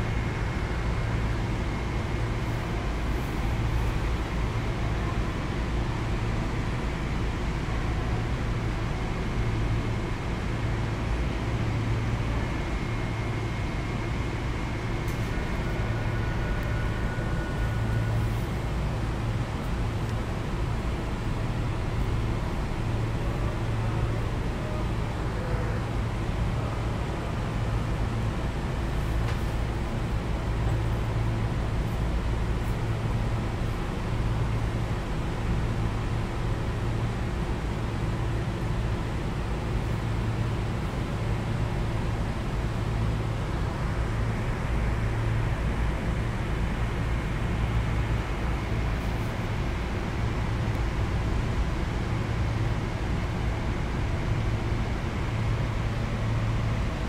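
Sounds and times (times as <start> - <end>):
train equipment humming: 0.0 - 57.0.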